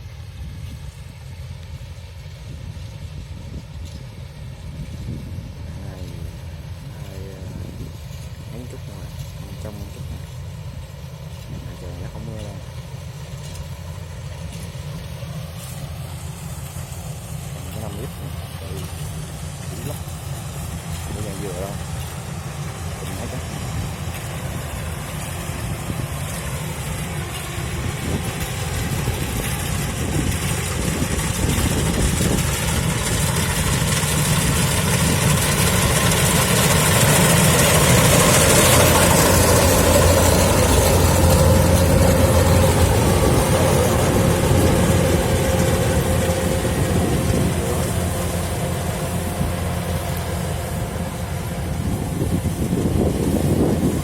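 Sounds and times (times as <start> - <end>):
combine harvester diesel engine: 0.0 - 54.0
threshing machinery noise: 0.0 - 54.0.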